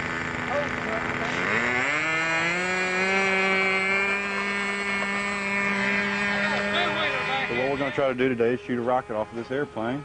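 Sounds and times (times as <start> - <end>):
model airplane engine drone: 0.0 - 10.0.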